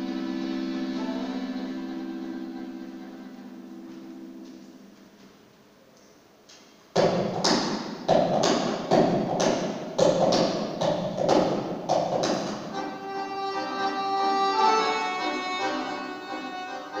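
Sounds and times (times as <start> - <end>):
accordion orchestra hits: 0.0 - 4.8, 7.0 - 17.0.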